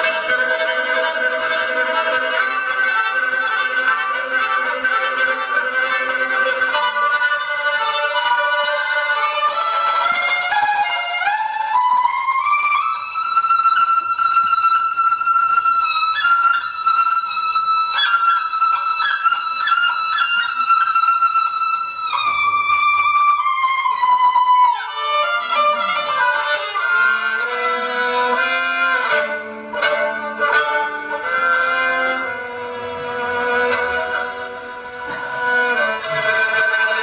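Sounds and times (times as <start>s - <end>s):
bowed string instrument solo: 0.0s - 37.0s.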